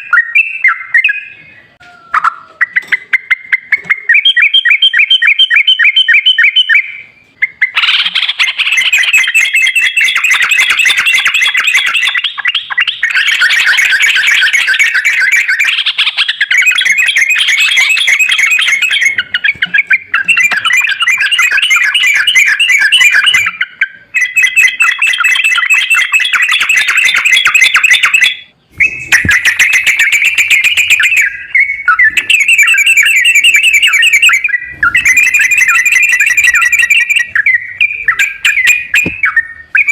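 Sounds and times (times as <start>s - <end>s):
bird chattering and warbling: 0.0s - 39.9s.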